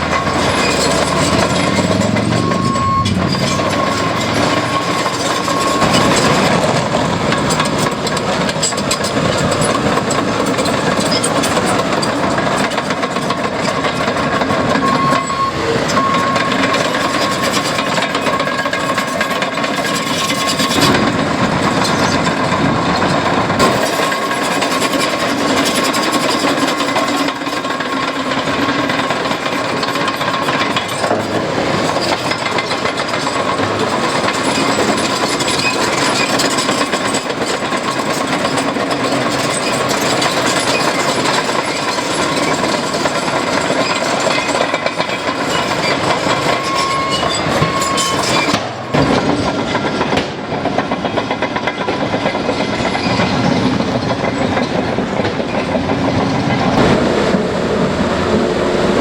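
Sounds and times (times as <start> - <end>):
diesel engines under load: 0.0 - 59.0
steel crawler tracks clanking: 0.0 - 59.0.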